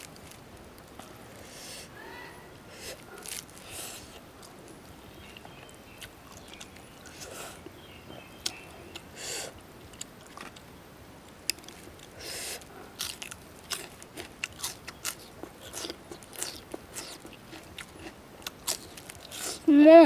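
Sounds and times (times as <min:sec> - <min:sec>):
quiet chewing: 0:02.7 - 0:10.7, 0:11.3 - 0:19.7.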